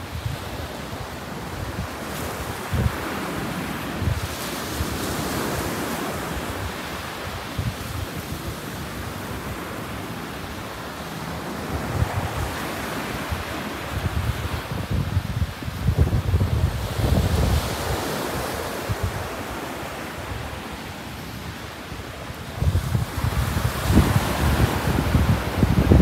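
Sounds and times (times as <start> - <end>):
wind buffeting microphone: 0.0 - 10.0, 11.4 - 26.0
ocean surf breaking: 0.0 - 26.0.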